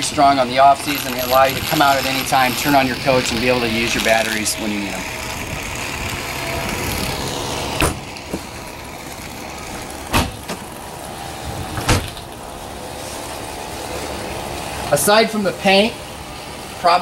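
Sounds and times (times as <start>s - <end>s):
steady vehicle noise: 0.0s - 17.0s.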